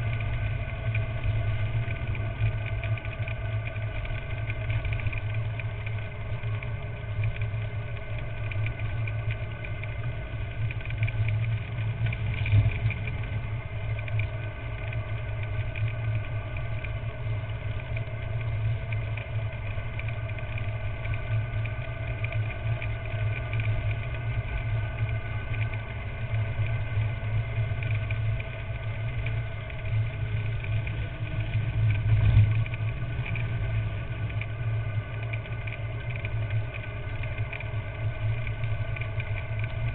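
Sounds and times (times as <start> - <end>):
cart tyres rolling on asphalt: 0.0 - 39.9.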